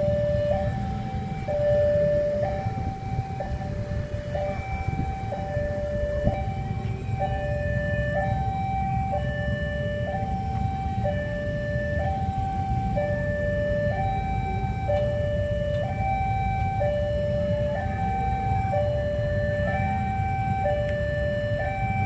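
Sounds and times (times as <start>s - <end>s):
level crossing alarm two-tone: 0.0s - 22.0s.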